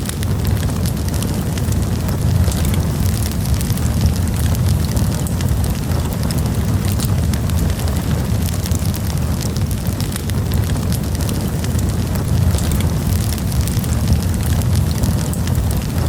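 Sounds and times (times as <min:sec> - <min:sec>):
campfire crackles and pops: 0:00.0 - 0:16.0
campfire rumble: 0:00.0 - 0:16.0.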